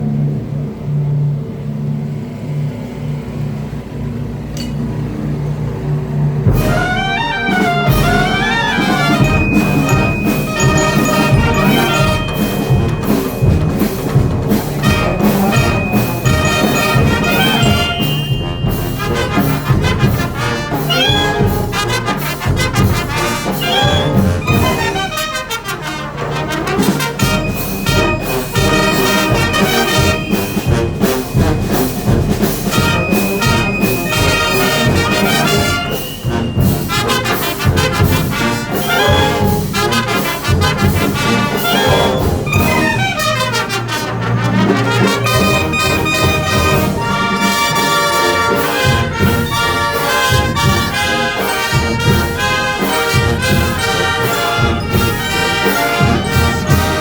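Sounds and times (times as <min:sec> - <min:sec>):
brass band playing: 0:05.8 - 0:57.0
percussion beat: 0:06.4 - 0:57.0.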